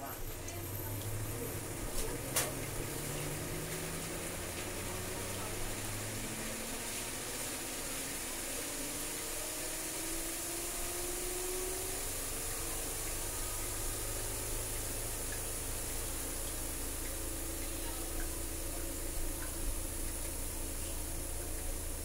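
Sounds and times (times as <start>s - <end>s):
curry boiling with bubbling hiss: 0.0s - 22.0s.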